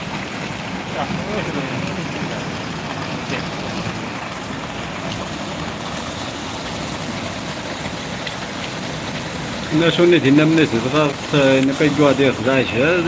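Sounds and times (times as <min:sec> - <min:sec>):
floodwater rushing: 0:00.0 - 0:13.0
heavy rain: 0:00.0 - 0:13.0.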